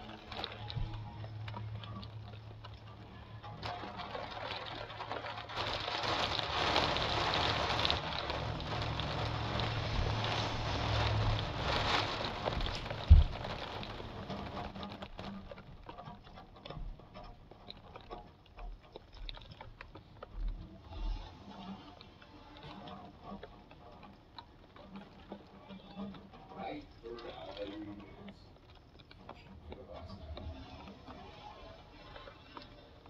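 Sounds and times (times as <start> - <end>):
rain pattering: 0.0 - 33.0
water dripping: 0.0 - 33.0.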